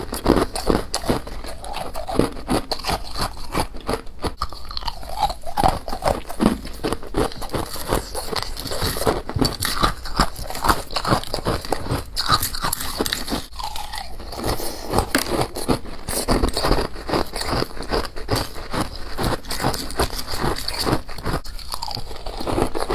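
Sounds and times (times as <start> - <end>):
chewing crunchy frost: 0.0 - 22.9.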